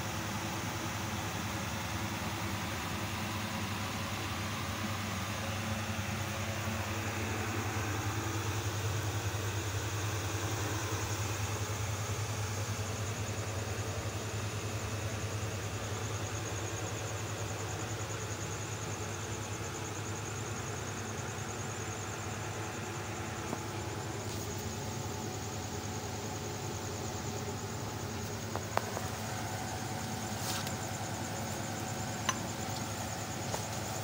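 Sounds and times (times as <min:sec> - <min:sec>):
constant hiss: 0:00.0 - 0:34.0
low mechanical hum: 0:00.0 - 0:34.0.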